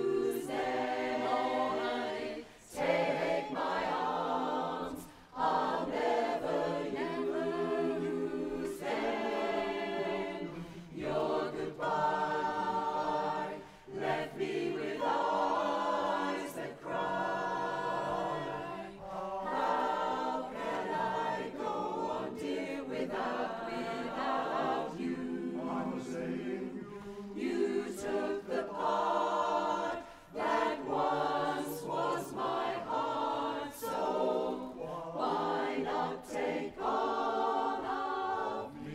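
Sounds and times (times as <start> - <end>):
chorus singing a cappella: 0.0 - 38.9.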